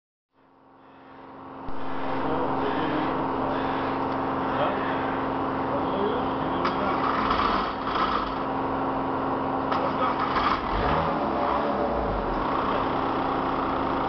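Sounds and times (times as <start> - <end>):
deep engine rumble: 0.6 - 14.0
traffic engines humming: 0.6 - 14.0.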